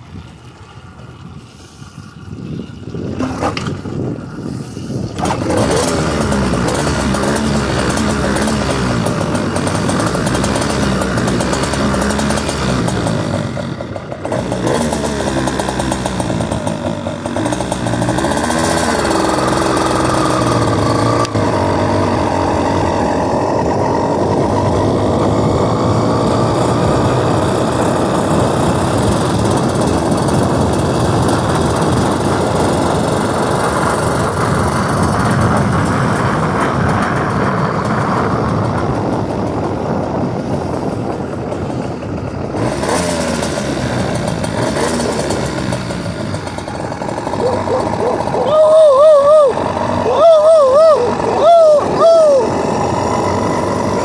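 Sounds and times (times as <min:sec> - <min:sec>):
small bicycle engine running: 0:00.0 - 0:54.0.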